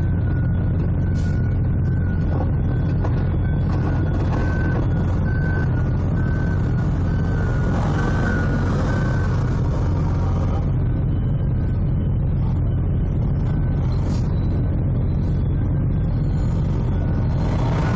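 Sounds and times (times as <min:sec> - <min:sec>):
forklift engine rumble: 0:00.0 - 0:17.9
reversing beeper: 0:00.0 - 0:17.9.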